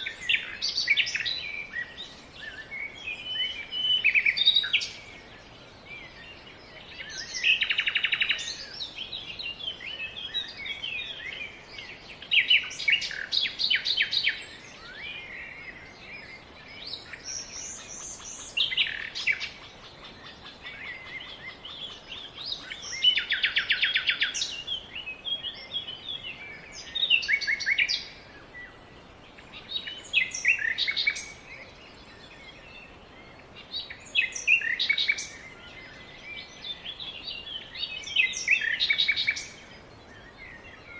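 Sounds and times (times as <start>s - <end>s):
faint steady hiss: 0.0s - 40.9s
songbird trilling: 6.8s - 28.7s, 29.5s - 40.9s.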